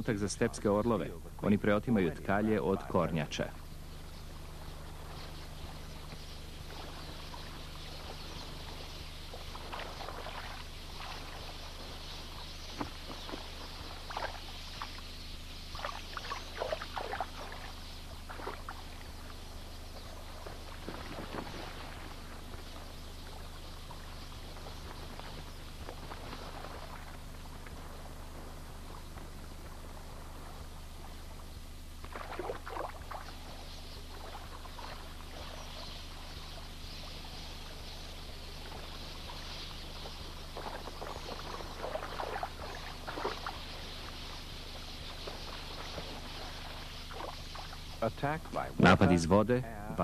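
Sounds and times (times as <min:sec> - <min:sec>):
steady low hum: 0:00.0 - 0:50.0
water splashing and sloshing: 0:04.6 - 0:48.7.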